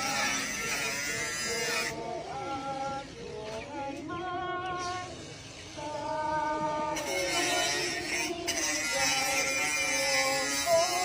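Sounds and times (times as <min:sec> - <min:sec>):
people's wavering voices: 0:00.0 - 0:11.0.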